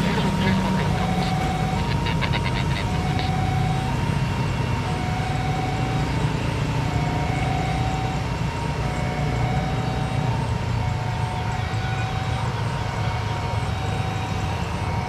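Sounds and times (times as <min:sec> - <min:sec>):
jet engines rumbling: 0:00.0 - 0:15.0
motorbikes passing: 0:00.0 - 0:15.0.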